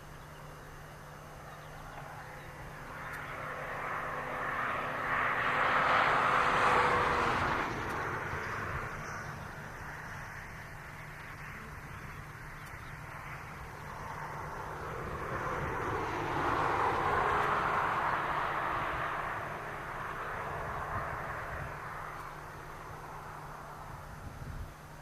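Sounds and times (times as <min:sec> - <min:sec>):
airliner engines passing: 0:00.0 - 0:25.0.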